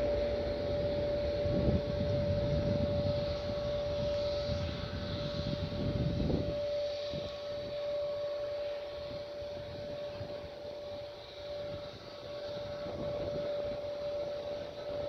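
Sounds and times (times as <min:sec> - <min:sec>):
distant jet engines whining: 0:00.0 - 0:15.0.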